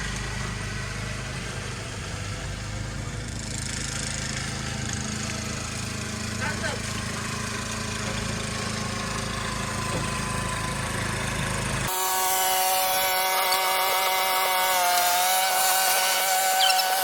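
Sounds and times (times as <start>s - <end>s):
chainsaw cutting wood: 3.3s - 17.0s.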